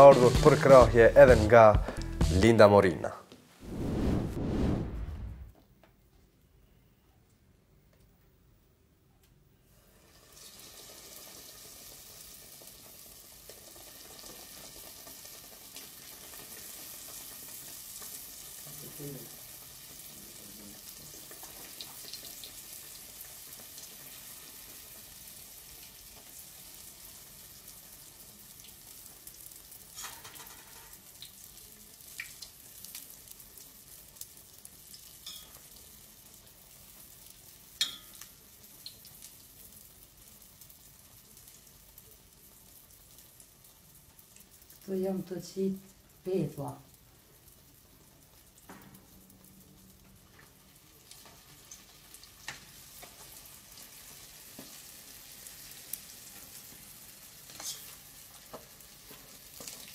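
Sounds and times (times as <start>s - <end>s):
food sizzling in hot oil: 9.7s - 59.9s.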